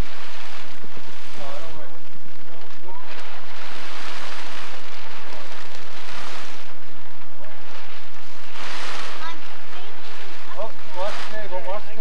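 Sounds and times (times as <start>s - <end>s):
plastic tarp rustling and crinkling: 0.0s - 12.0s.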